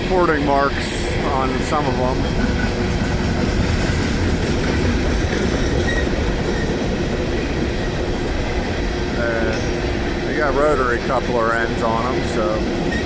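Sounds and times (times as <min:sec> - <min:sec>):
freight train rumbling past: 0:00.0 - 0:13.0
wheels clickety-clack: 0:00.0 - 0:13.0.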